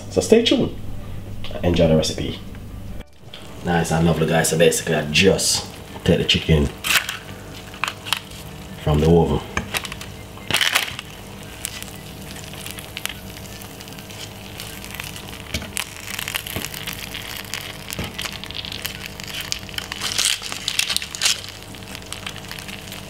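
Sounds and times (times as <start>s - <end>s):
wet crackling in pan juices: 3.2s - 23.0s.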